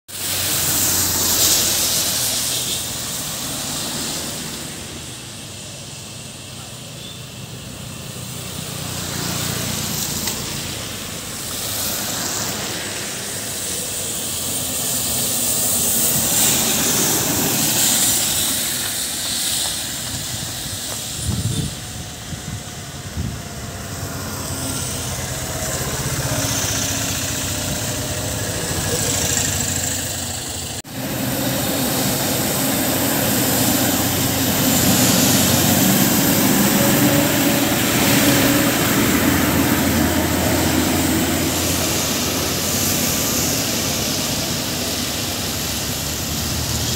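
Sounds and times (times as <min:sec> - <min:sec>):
bus diesel engine passing: 0:00.1 - 0:46.9
heavy lorry passing: 0:00.1 - 0:46.9
tyre hiss on wet asphalt: 0:00.1 - 0:46.9.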